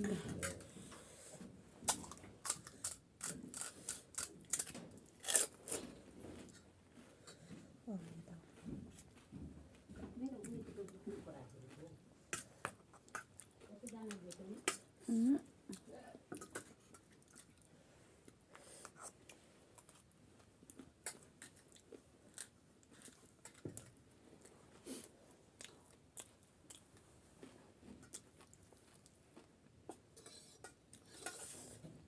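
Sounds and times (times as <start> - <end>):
chewing and crunching snacks: 0.1 - 7.6, 8.9 - 15.0, 15.6 - 31.8.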